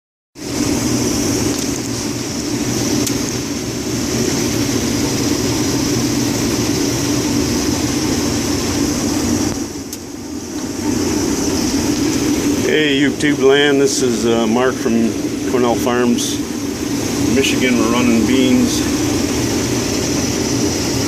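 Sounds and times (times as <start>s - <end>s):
combine harvester drone: 0.4s - 21.0s
high machine whine: 0.4s - 21.0s.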